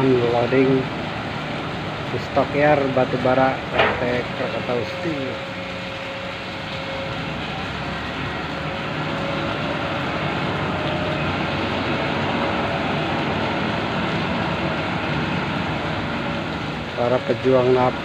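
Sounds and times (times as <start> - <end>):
heavy rain hissing: 0.0 - 18.0
heavy vehicle engine running: 0.0 - 18.0.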